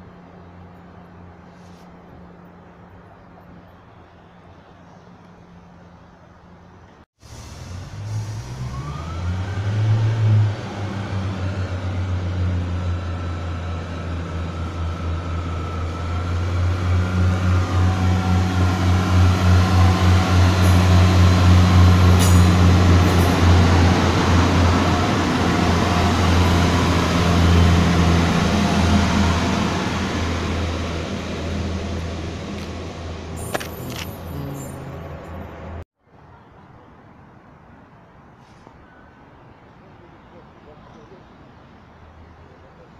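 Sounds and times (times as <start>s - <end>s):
diesel train engine drone: 0.0s - 35.8s.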